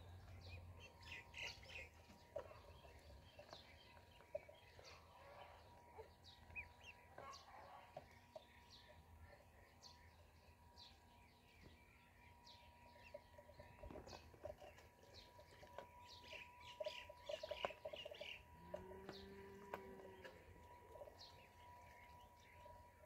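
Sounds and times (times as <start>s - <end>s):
ducklings peeping: 0.0s - 23.0s.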